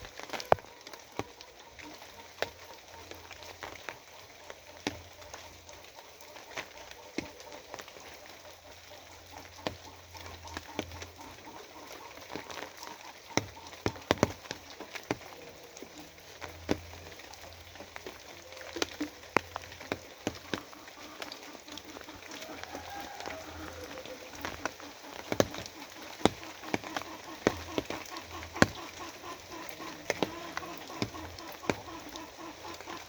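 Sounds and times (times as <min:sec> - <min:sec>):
rain falling: 0:00.0 - 0:33.0
raindrops tapping on hard surface: 0:00.0 - 0:33.0.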